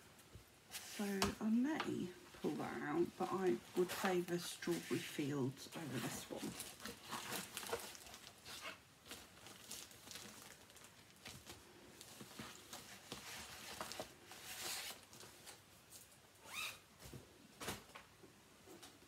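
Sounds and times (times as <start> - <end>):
fabric rustling: 0.6 - 17.9.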